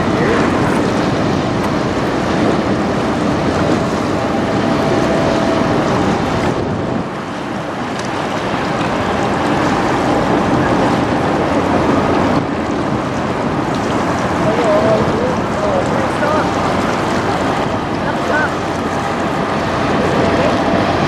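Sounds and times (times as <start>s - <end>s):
ship hum: 0.0s - 21.0s
water gushing and splashing: 0.0s - 21.0s
wind buffeting microphone: 0.0s - 21.0s.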